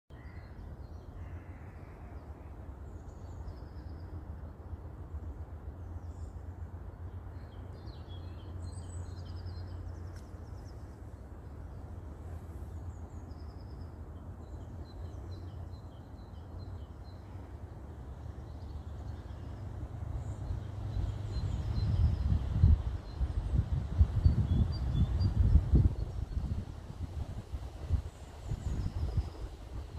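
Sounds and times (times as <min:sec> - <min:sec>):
songbirds chirping and trilling: 0:00.1 - 0:29.9.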